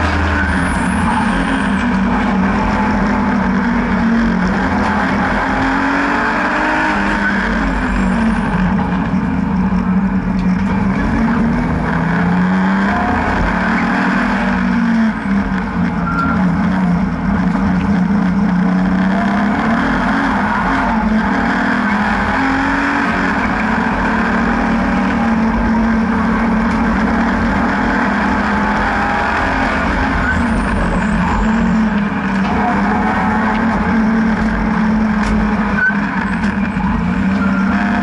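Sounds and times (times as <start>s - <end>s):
car engine running hard: 0.0s - 38.0s
road and wind noise: 0.0s - 38.0s.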